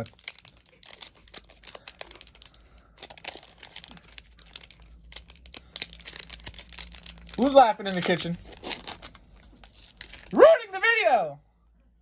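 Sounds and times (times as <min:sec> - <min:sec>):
foil wrapper crinkling: 0:00.0 - 0:10.4
foil wrapper tearing: 0:00.0 - 0:10.4.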